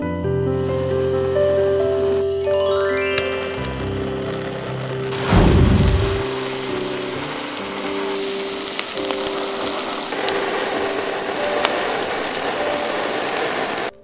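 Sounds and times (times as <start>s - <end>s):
butane torch hissing: 0.3s - 14.0s
meat sizzling: 0.5s - 14.0s.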